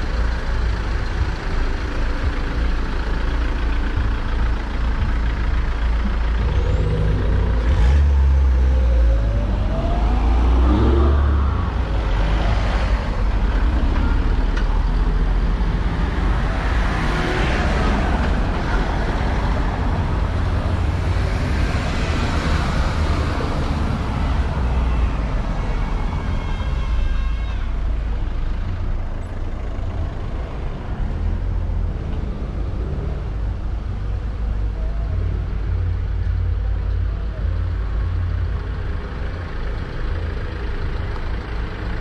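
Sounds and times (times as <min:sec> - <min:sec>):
low traffic rumble: 0:00.0 - 0:42.0
vehicles driving by: 0:00.0 - 0:42.0.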